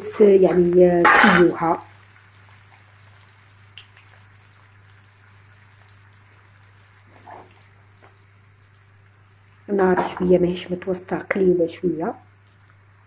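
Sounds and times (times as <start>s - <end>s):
offal frying in oil: 0.0s - 13.0s.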